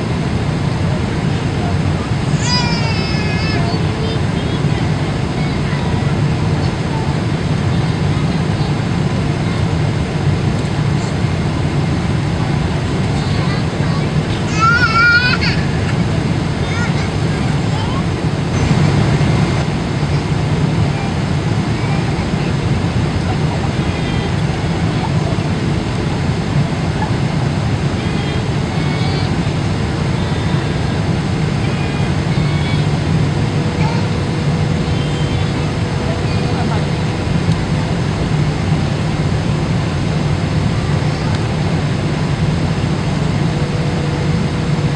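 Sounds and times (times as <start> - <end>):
airliner cabin engine roar: 0.0 - 44.9.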